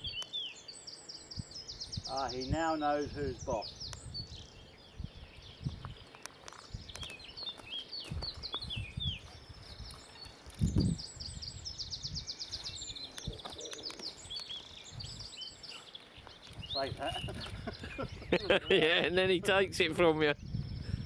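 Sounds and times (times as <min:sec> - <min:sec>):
small birds singing: 0:00.0 - 0:21.0.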